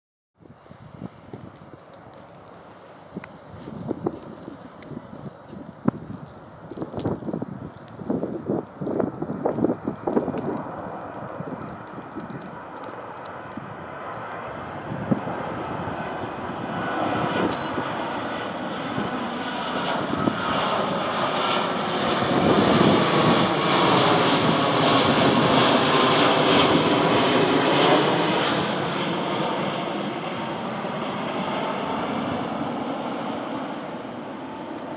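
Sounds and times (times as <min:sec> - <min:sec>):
airplane passing overhead: 0:00.4 - 0:34.9.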